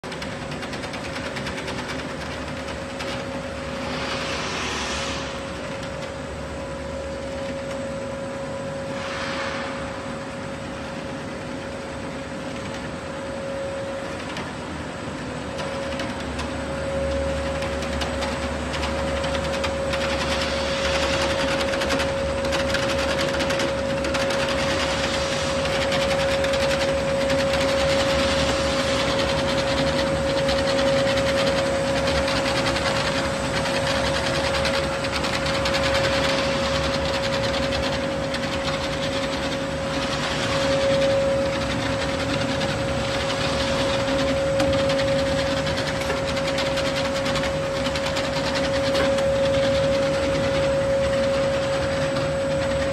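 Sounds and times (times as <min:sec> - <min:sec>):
machine whine: 0:00.0 - 0:52.9
steady mechanical hum: 0:00.0 - 0:52.9.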